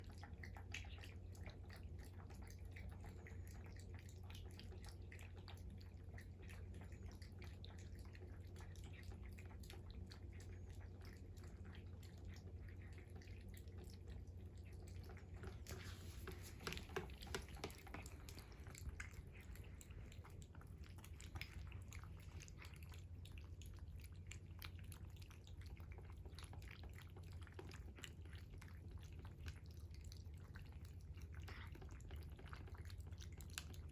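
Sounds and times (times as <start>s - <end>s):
cat chewing food: 0.0s - 33.9s
low steady hum: 0.0s - 33.9s.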